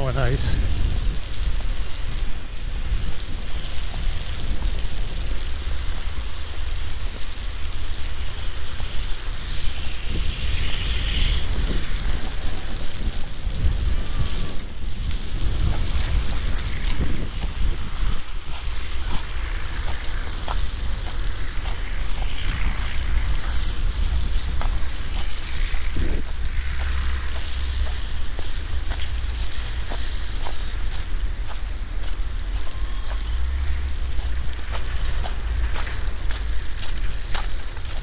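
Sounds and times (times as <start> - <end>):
hiss of falling sleet: 0.0 - 38.0
wind buffeting microphone: 0.0 - 38.0.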